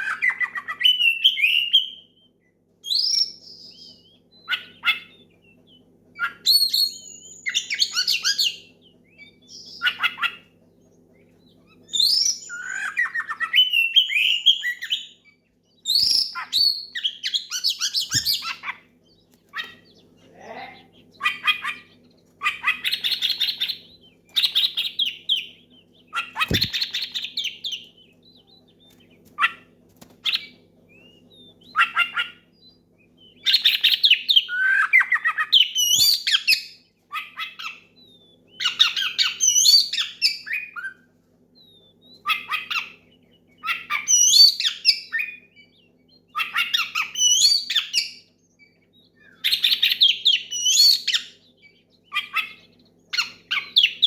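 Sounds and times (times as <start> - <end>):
bird singing chattering and whistling: 0.0 - 54.0
faint steady hum: 0.0 - 54.0.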